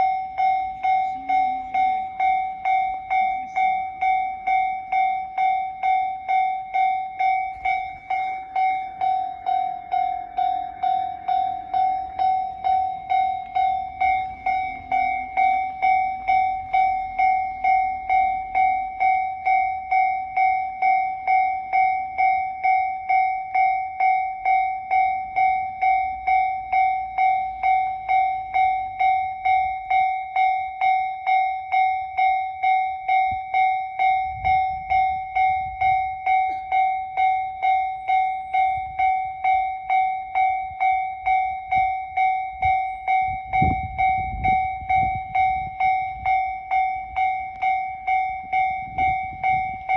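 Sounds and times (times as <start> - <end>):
level-crossing warning bell: 0.0 - 49.9.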